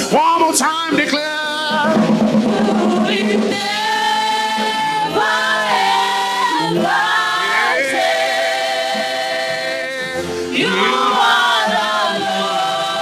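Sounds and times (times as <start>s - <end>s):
group singing worship chorus: 1.4s - 13.0s.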